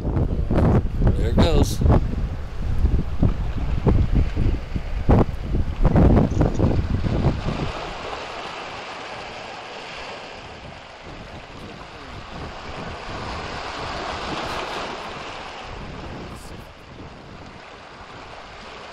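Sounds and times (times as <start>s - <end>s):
ocean surf breaking: 0.0s - 18.9s
wind buffeting microphone: 0.0s - 18.9s.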